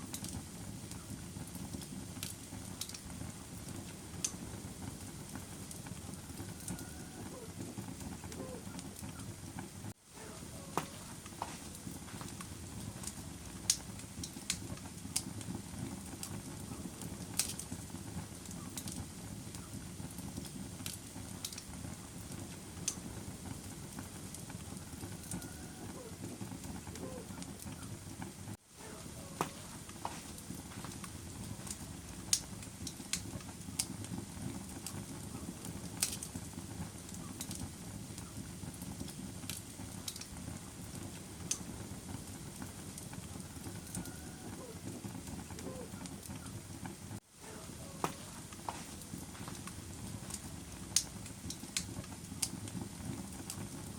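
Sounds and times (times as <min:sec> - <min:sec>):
fire crackling and popping: 0:00.0 - 0:53.9
fire rumbling: 0:00.0 - 0:53.9.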